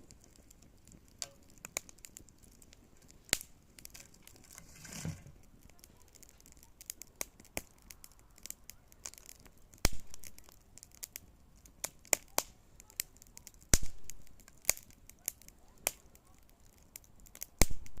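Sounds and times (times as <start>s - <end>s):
campfire crackling: 0.0s - 18.0s
fire snaps and pops: 0.0s - 18.0s.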